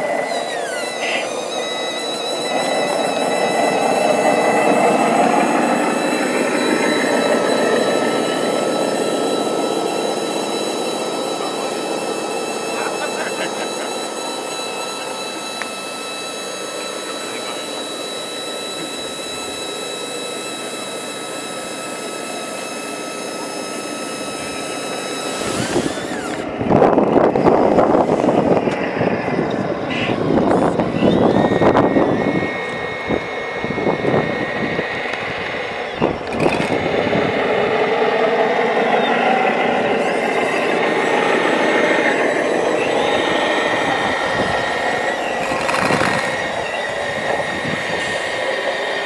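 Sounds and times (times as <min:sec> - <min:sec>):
hydraulic pump whining: 0:00.0 - 0:49.0.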